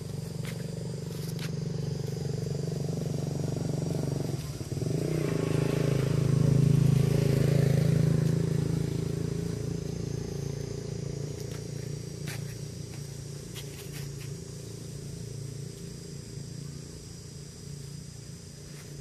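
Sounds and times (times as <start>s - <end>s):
motor engine humming: 0.0s - 19.0s.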